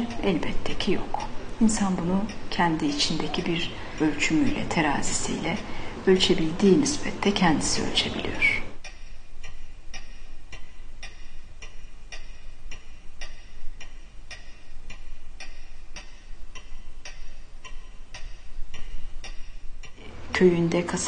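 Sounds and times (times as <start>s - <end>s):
mechanical clock ticking: 0.0s - 21.0s.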